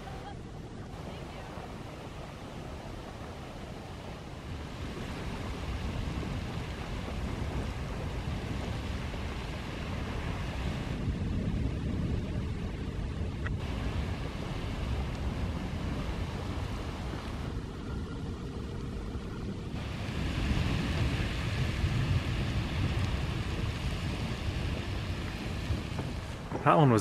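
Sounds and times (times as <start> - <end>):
geyser water and steam hissing: 0.0 - 27.0
low rumble: 0.0 - 27.0.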